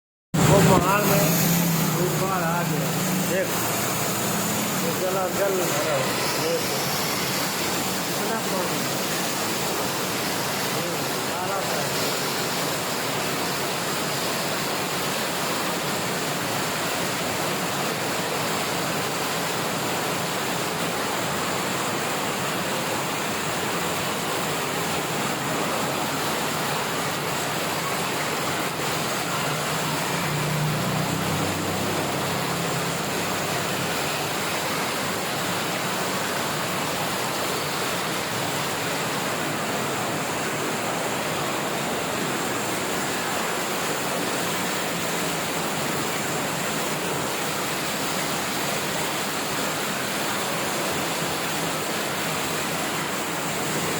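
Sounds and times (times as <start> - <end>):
heavy rain: 0.3 - 53.9
running floodwater: 0.3 - 53.9.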